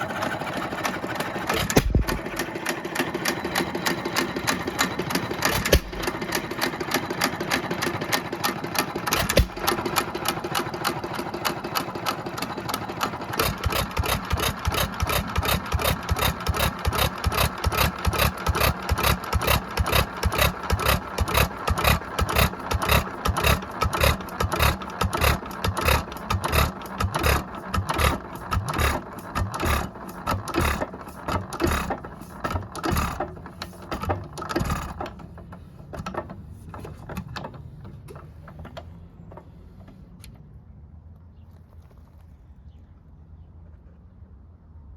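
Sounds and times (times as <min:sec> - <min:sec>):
hit-and-miss engine running: 0:00.0 - 0:40.0.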